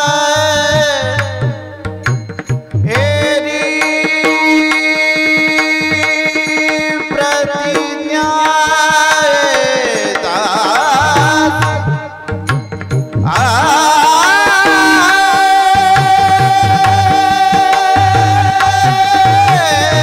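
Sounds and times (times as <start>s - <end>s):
hand drum beating: 0.0s - 20.0s
person singing devotional song: 0.0s - 20.0s.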